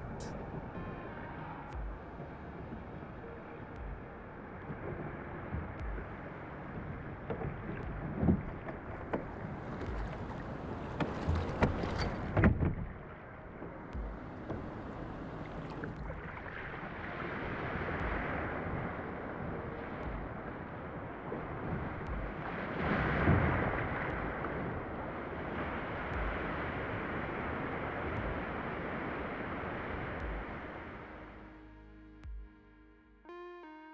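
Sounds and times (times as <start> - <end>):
wind on microphone: 0.0 - 31.4
water washing against kayak: 0.0 - 31.5.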